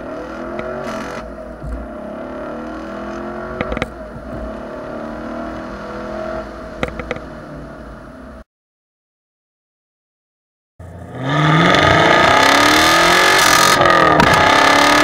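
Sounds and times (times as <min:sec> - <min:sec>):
car engine droning in cabin: 0:00.0 - 0:08.4, 0:10.8 - 0:15.0.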